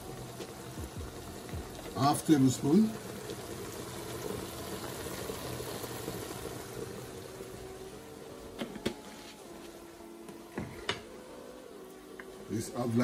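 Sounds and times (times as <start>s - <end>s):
food bubbling in pots: 0.0s - 13.0s.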